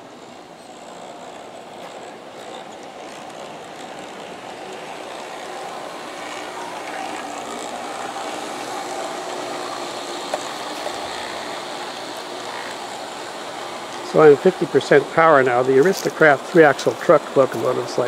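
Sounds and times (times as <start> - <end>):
faint hum: 0.0 - 18.0
model train rolling on track: 0.0 - 18.0.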